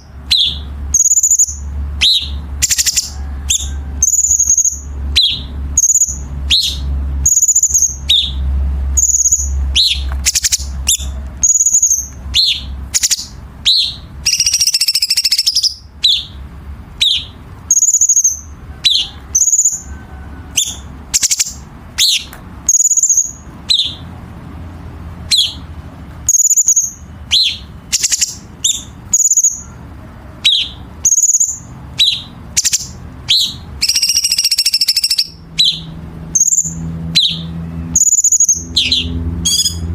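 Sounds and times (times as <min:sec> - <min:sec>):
bird singing sharp high notes: 0:00.0 - 0:16.4, 0:17.0 - 0:19.9, 0:20.6 - 0:24.1, 0:25.2 - 0:25.7, 0:26.3 - 0:29.7, 0:30.5 - 0:39.9
harsh rattling bird call: 0:00.0 - 0:39.9.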